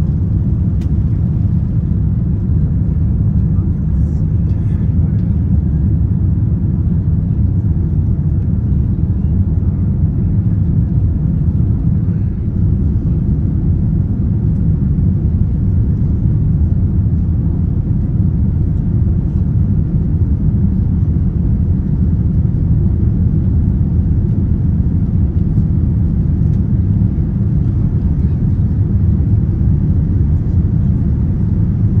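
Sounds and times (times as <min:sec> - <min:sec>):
airflow over fuselage: 0:00.0 - 0:32.0
airplane cabin engine rumble: 0:00.0 - 0:32.0.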